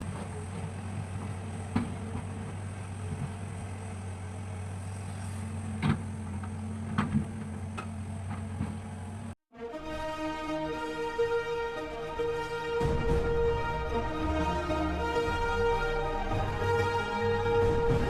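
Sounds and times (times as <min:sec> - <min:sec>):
excavator diesel engine running: 0:00.0 - 0:09.3, 0:09.9 - 0:18.0.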